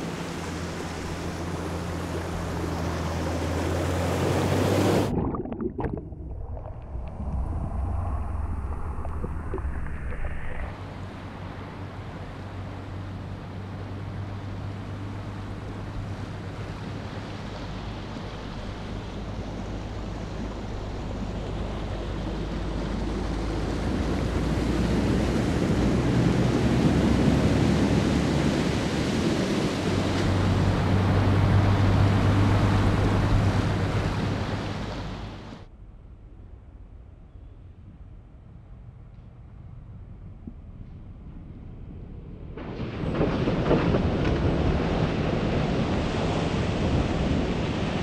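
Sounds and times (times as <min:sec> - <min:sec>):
water splashing from wheels: 0:00.0 - 0:35.6, 0:42.2 - 0:48.0
low engine hum: 0:00.0 - 0:48.0.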